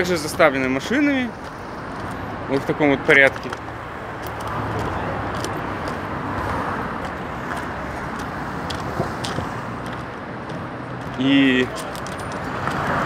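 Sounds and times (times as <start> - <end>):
cars rushing by: 0.0 - 13.0.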